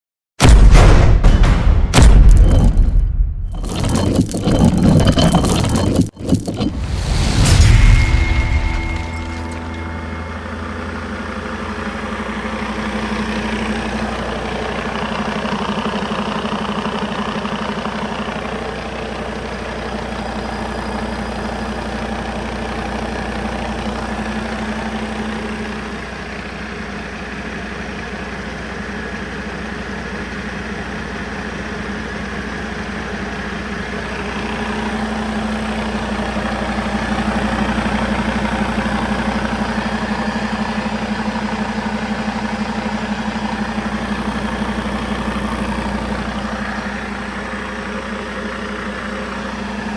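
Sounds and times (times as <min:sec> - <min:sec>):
diesel engine idling: 0:05.4 - 0:49.9.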